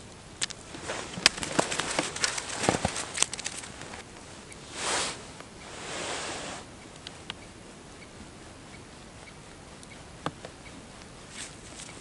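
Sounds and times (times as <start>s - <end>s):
soft rustles: 0.5s - 12.0s.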